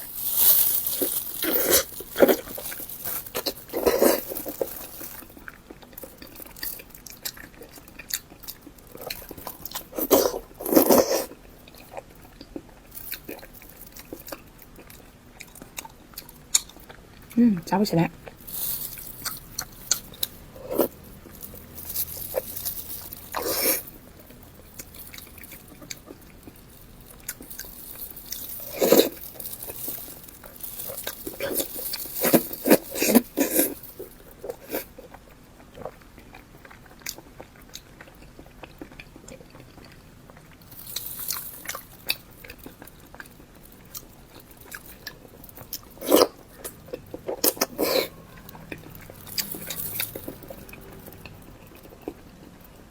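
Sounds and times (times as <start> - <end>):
chewing and biting: 0.0 - 17.4, 18.2 - 52.9.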